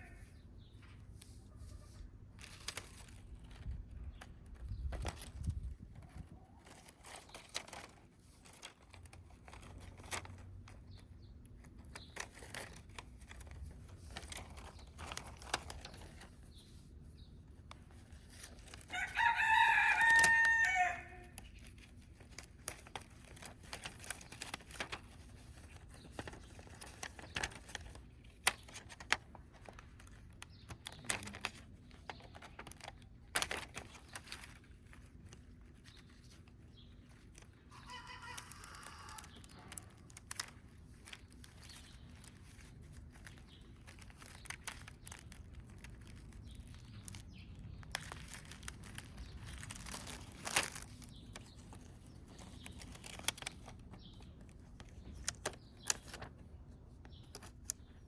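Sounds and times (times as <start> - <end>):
faint clicks and rustling: 0.1 - 19.2, 19.8 - 58.0.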